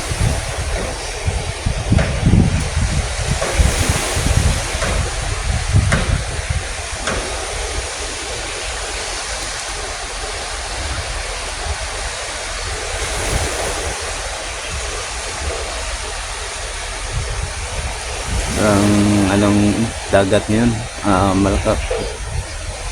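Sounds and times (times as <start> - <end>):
sea waves washing in: 0.0 - 22.9
wind buffeting microphone: 0.0 - 22.9.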